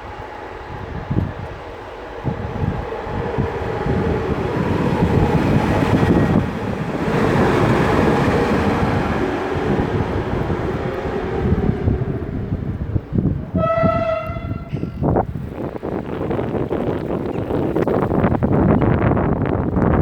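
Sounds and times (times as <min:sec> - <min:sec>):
electric locomotive rumbling: 0:00.0 - 0:20.0
wind buffeting microphone: 0:00.0 - 0:20.0.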